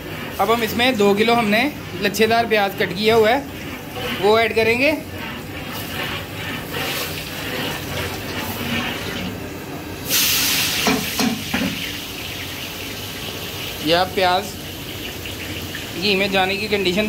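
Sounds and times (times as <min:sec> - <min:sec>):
hot oil sizzling in pot: 0:00.0 - 0:17.0
loud hissing sizzle of onions: 0:00.0 - 0:17.0.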